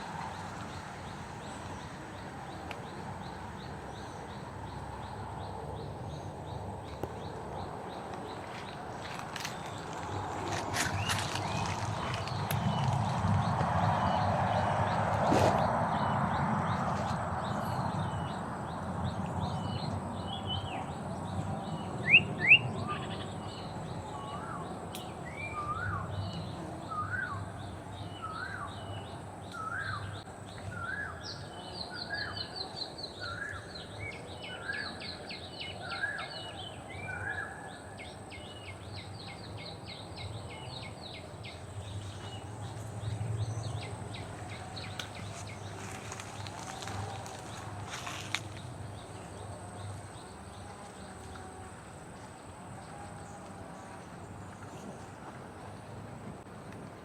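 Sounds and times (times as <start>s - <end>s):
birds singing: 0.2s - 51.6s.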